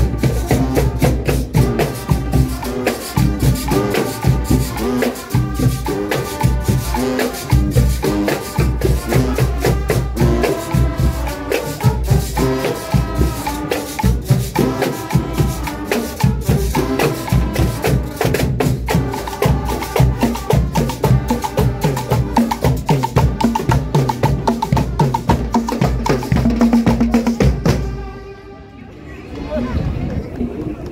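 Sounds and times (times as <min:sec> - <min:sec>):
bass drum and percussion: 0:00.0 - 0:28.0
saxophones: 0:00.0 - 0:29.1
trumpets: 0:00.0 - 0:29.5.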